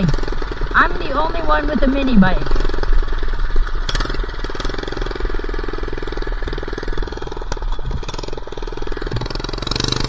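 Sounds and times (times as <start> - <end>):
minibike engine running: 0.0 - 10.0.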